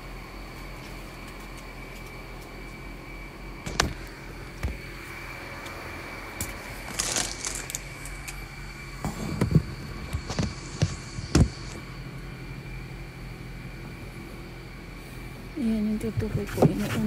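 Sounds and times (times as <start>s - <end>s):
faint high whine: 0.0s - 17.0s
steady hum: 0.0s - 17.0s.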